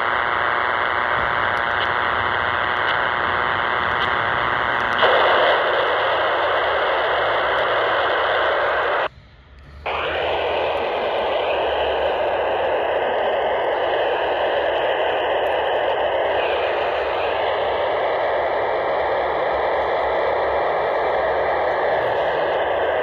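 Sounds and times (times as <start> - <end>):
radio static hiss: 0.0 - 9.1, 9.8 - 23.0.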